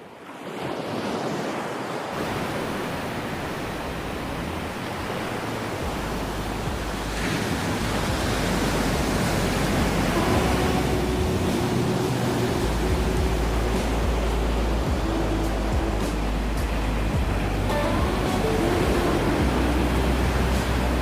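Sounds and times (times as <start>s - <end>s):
ocean waves washing on beach: 0.0s - 21.0s
faint steady tones: 2.2s - 21.0s.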